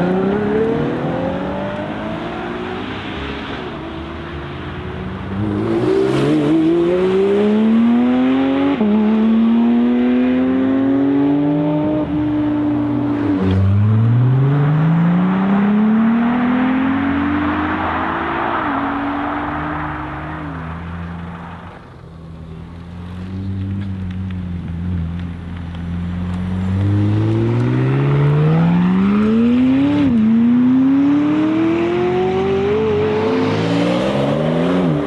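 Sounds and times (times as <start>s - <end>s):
sports car engine accelerating: 0.0s - 3.5s, 5.2s - 21.8s, 22.4s - 35.0s.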